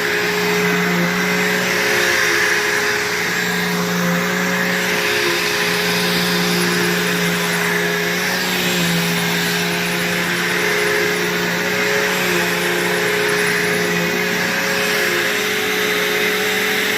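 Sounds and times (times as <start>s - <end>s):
vacuum cleaner running: 0.0s - 16.9s.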